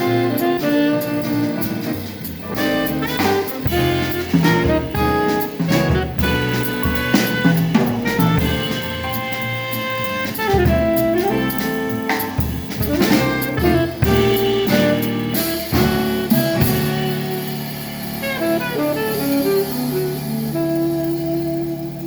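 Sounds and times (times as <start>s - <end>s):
drum kit with cymbal hits: 0.0s - 22.0s
saxophone: 0.0s - 22.0s.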